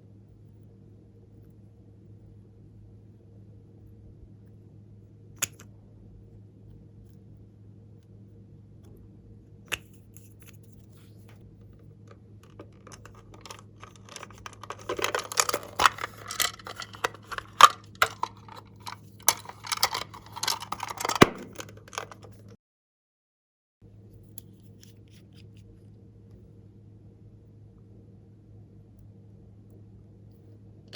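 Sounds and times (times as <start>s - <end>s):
low steady hum: 0.0s - 22.6s, 23.8s - 30.9s.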